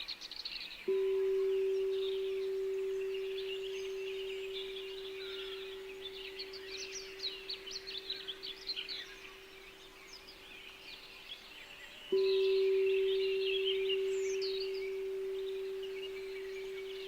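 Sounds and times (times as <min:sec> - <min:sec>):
songbirds chirping: 0:00.0 - 0:17.0
pure singing bowl tone: 0:00.8 - 0:11.0, 0:12.1 - 0:17.0.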